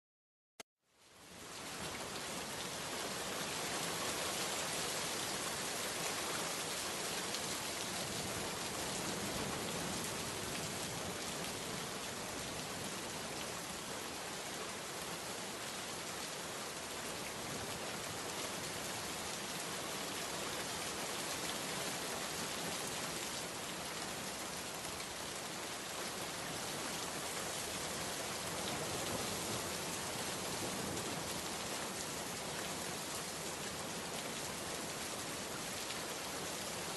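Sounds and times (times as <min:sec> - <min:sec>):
steady rain: 0:00.8 - 0:36.9.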